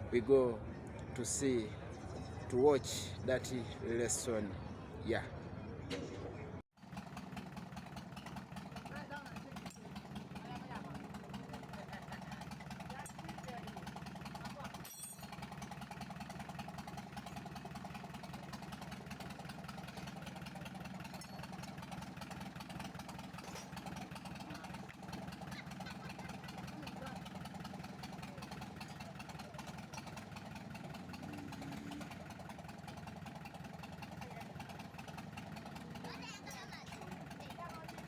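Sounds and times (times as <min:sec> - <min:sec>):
engine idling: 0:06.8 - 0:38.0.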